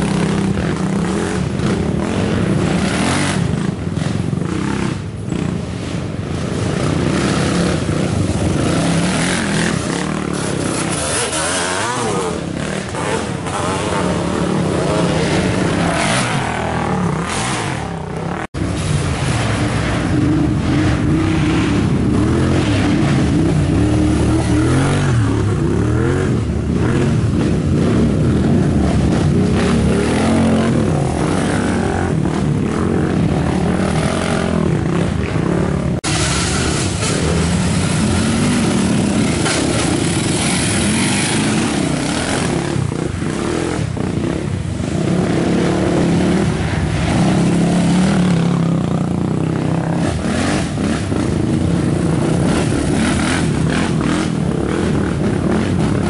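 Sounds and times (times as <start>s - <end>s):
quad engines revving past: 0.0s - 56.0s.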